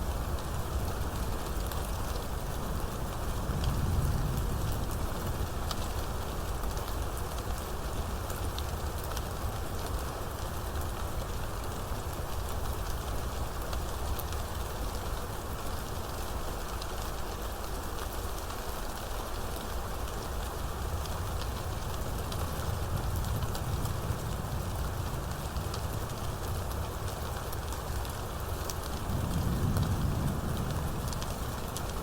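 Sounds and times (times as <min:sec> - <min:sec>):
steady rain hiss: 0:00.0 - 0:32.0
raindrops ticking on surface: 0:00.1 - 0:32.0.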